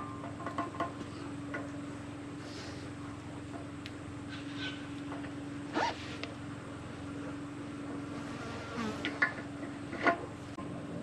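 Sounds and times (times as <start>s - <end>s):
buzzing hum: 0.0s - 11.0s.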